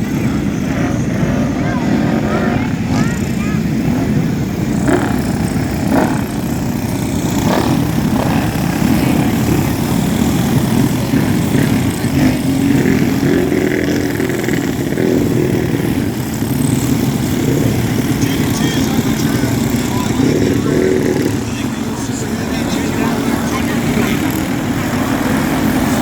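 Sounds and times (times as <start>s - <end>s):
motorcycle engines racing: 0.0s - 26.0s.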